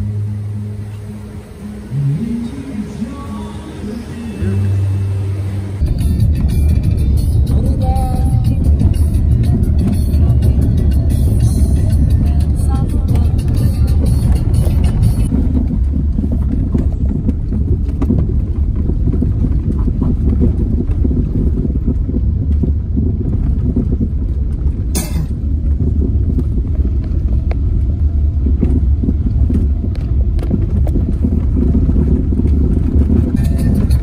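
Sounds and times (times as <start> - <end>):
car driving on rough road: 0.0 - 34.0.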